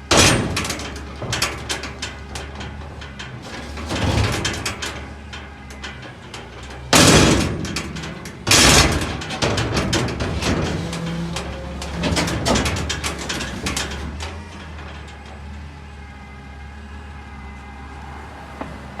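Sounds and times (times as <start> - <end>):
clattering knocks and rattles: 0.0 - 16.3
garbage truck engine hum: 0.0 - 19.0.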